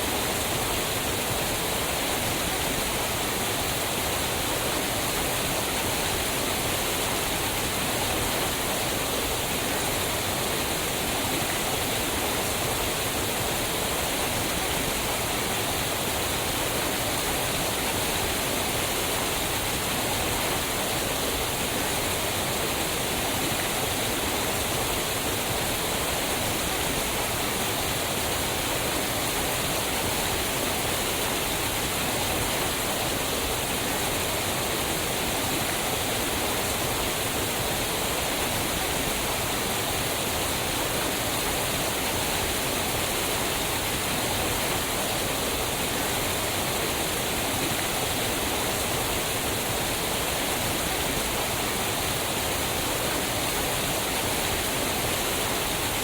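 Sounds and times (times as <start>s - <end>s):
waterfall onto rocks: 0.0s - 56.0s.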